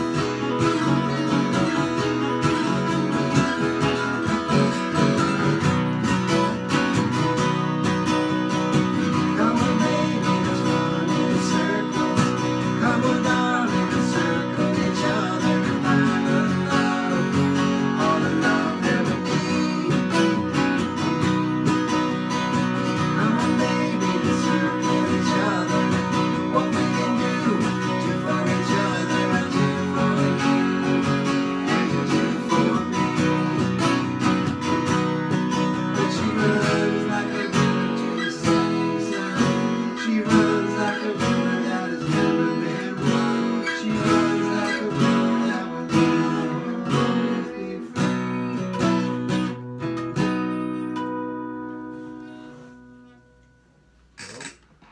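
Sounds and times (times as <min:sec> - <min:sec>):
acoustic guitar strumming chords: 0:00.0 - 0:54.9.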